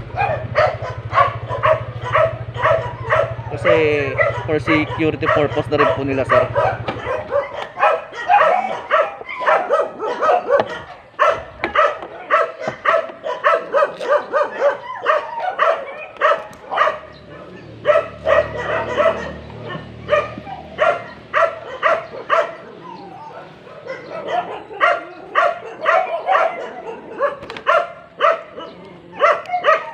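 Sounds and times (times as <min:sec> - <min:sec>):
dog barking high: 0:00.0 - 0:29.9.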